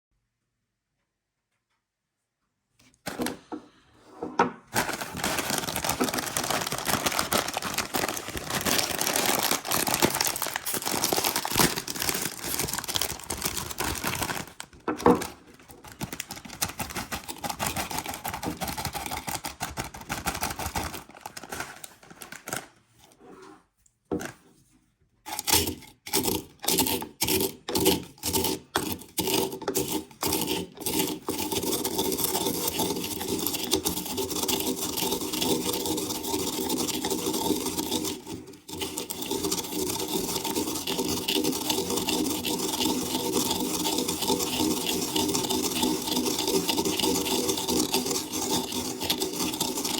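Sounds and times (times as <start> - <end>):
spice grinder grinding: 4.7 - 22.6, 25.3 - 49.9
chips rustling: 4.7 - 23.0, 25.3 - 49.9.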